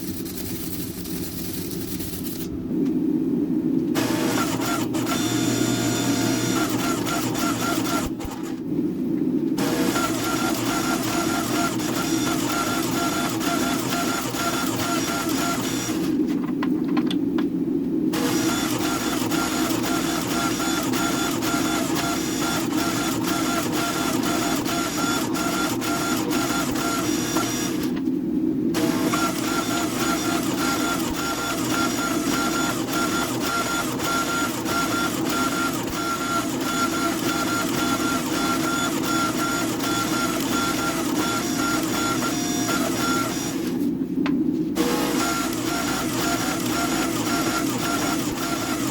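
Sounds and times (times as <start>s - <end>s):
workshop machine humming: 4.0s - 8.7s, 9.6s - 16.3s, 18.1s - 28.0s, 28.7s - 48.9s.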